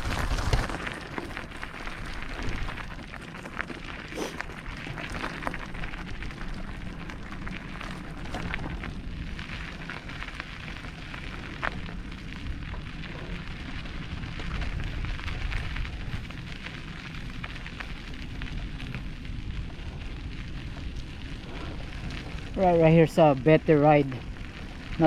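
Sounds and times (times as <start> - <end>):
bike tyres crunching on rocks: 0.0 - 25.0
steady low rumble: 0.0 - 25.0.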